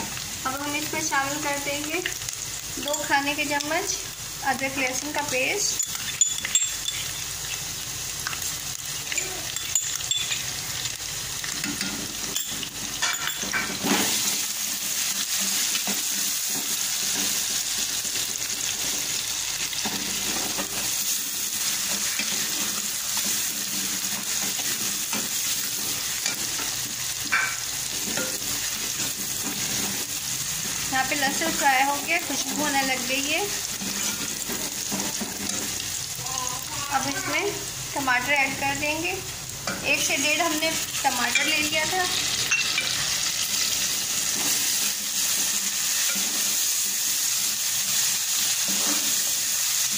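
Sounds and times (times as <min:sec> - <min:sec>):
onions sizzling in hot oil: 0:00.0 - 0:49.9.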